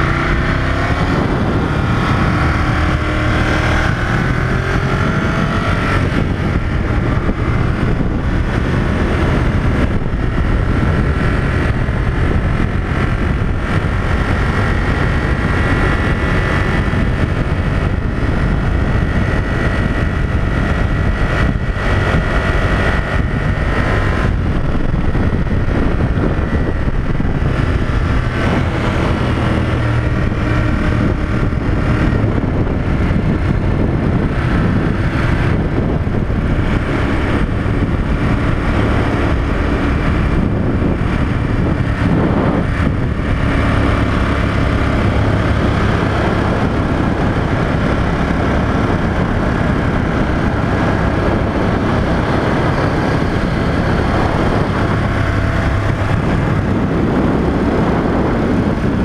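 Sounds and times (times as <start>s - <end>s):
motorcycle engine cruising: 0.0s - 59.0s
wind rushing: 0.0s - 59.0s.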